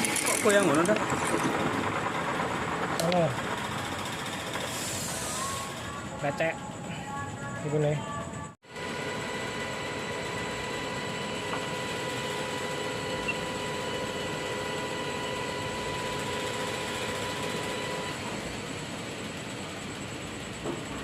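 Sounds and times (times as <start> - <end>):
milling machine running: 0.0 - 6.5, 8.7 - 19.6.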